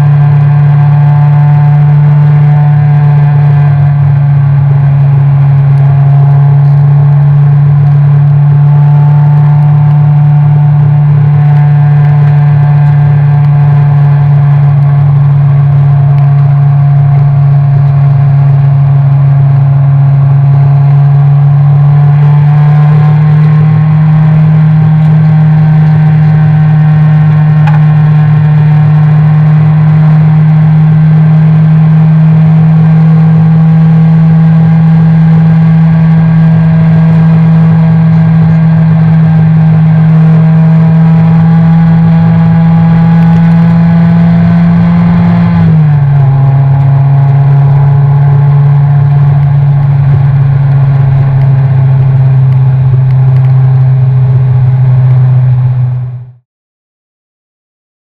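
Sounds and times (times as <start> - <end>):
race car engine at high revs: 0.0 - 56.4.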